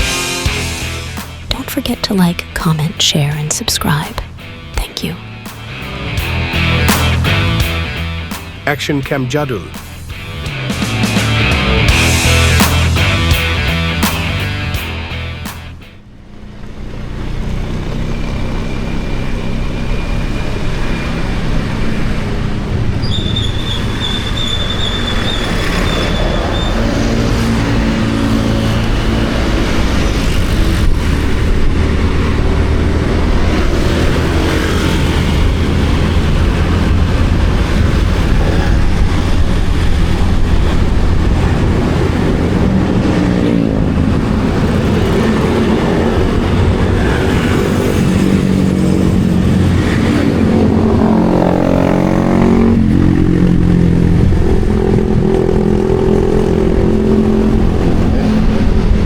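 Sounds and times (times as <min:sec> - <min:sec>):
road and wind rush: 0:00.0 - 0:59.0
motorcycle engine running: 0:09.8 - 0:59.0.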